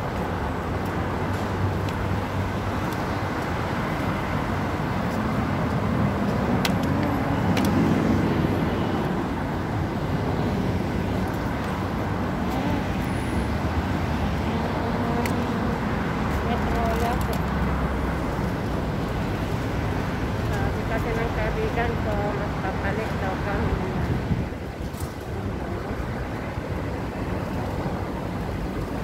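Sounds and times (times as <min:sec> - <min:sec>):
city street traffic: 0:00.0 - 0:29.0
vehicle passing: 0:00.0 - 0:29.0.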